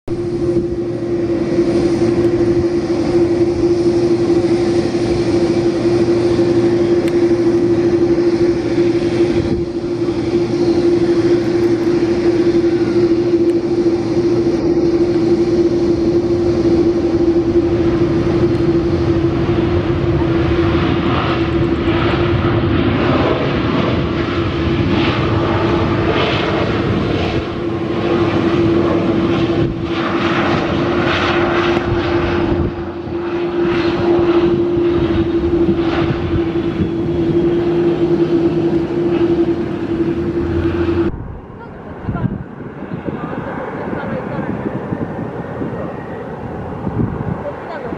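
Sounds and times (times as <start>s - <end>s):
jet engines droning: 0.1s - 47.9s.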